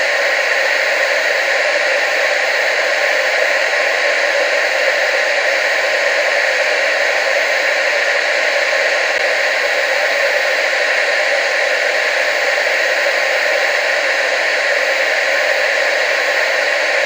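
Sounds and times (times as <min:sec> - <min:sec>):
tv static hiss: 0:00.0 - 0:17.0.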